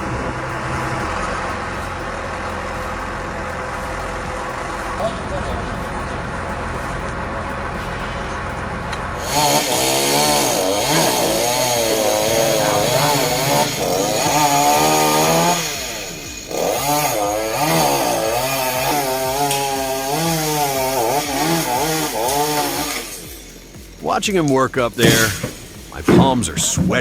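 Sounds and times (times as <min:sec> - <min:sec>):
low machine rumble: 0:00.0 - 0:20.0, 0:23.0 - 0:27.0
chainsaw revving and cutting: 0:00.0 - 0:27.0.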